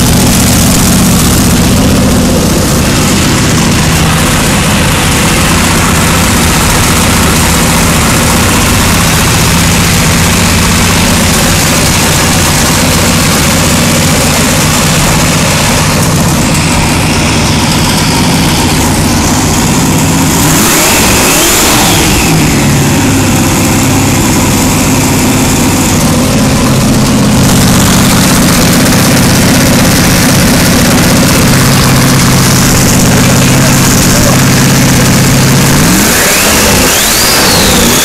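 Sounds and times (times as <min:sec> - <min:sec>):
engine revving: 0:00.0 - 0:38.0
engine running loud: 0:00.0 - 0:38.0.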